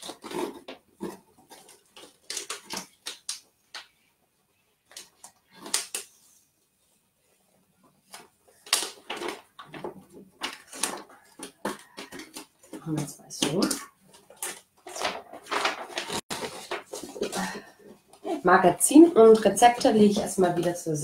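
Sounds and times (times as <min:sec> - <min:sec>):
cardboard and paper rustling: 0:00.0 - 0:03.5, 0:07.3 - 0:20.9.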